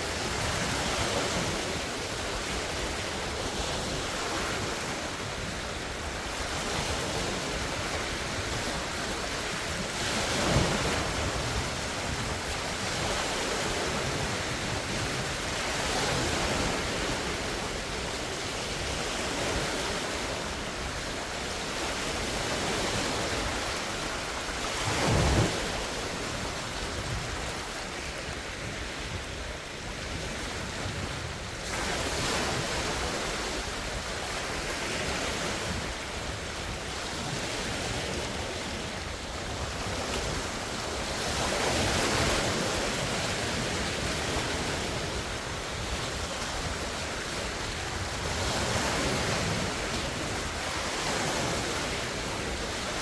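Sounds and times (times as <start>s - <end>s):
lake waves breaking: 0.0s - 53.0s
wind on microphone: 0.0s - 53.0s.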